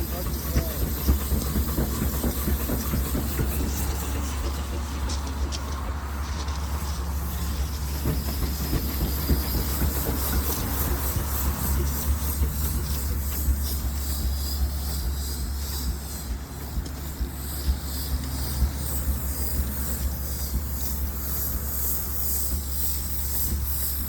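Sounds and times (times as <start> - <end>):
steam engine rumble: 0.0 - 24.0
steam hissing: 0.0 - 24.0.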